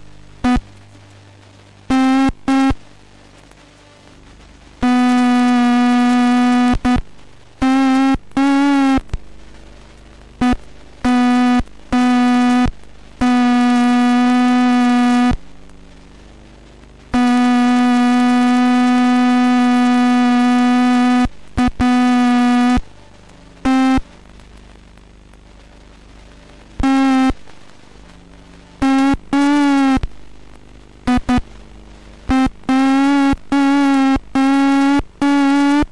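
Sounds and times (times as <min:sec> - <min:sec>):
buzzy electronic tone: 0:00.0 - 0:35.9
faint hiss: 0:00.0 - 0:35.9.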